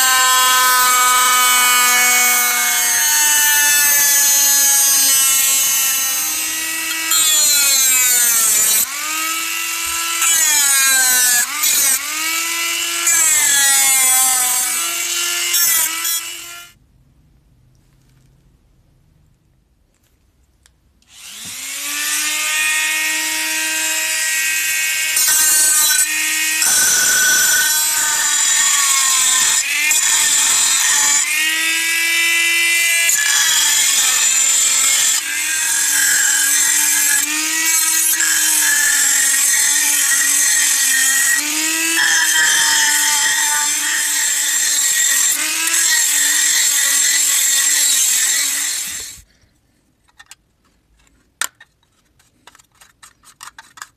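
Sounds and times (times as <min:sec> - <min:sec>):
rotary tool grinding metal: 0:00.0 - 0:16.8, 0:21.1 - 0:49.3.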